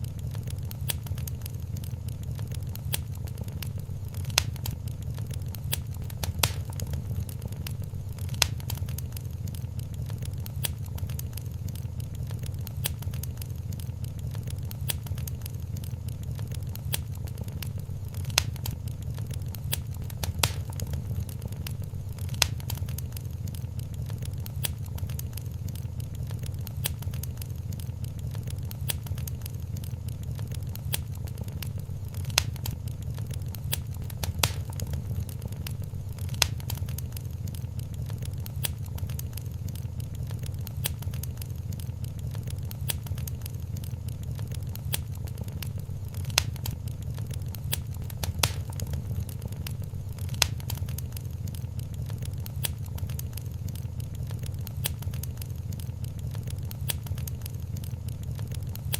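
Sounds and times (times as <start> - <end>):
low fire rumble: 0.0 - 58.9
sharp fire pops: 0.0 - 58.9
wood fire crackling: 0.0 - 58.9.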